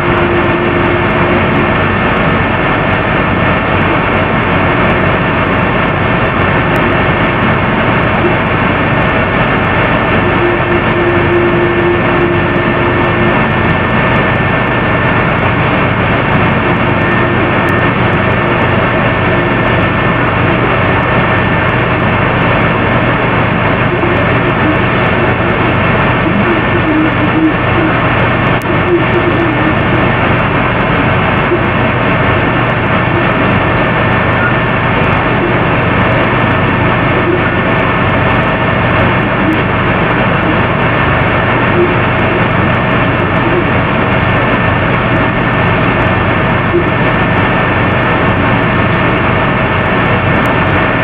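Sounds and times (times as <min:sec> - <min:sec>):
constant hum of held tones: 0:00.0 - 0:51.0
fans and air conditioning rushing: 0:00.0 - 0:51.0.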